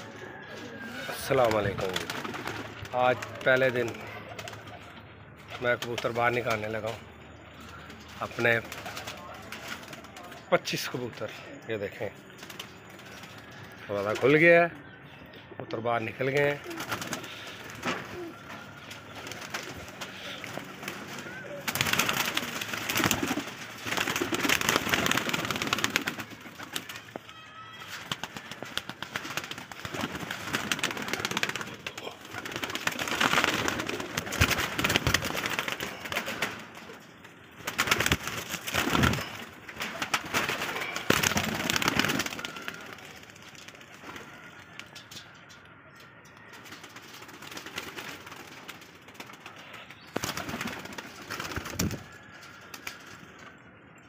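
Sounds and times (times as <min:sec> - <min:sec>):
pigeons cooing: 0:00.0 - 0:15.4, 0:16.1 - 0:27.2, 0:27.8 - 0:45.4
wings flapping: 0:00.2 - 0:07.0, 0:07.6 - 0:11.2, 0:12.2 - 0:14.5, 0:16.2 - 0:45.3, 0:46.4 - 0:53.4.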